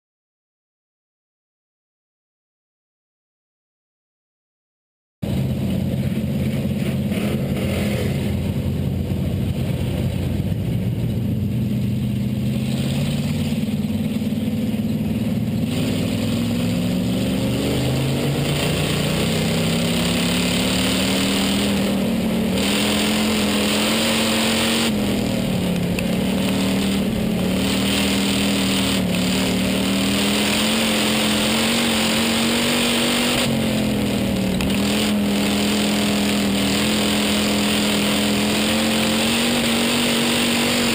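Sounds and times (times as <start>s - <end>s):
race car engine revving: 5.2s - 40.9s
wind and track noise: 5.2s - 40.9s.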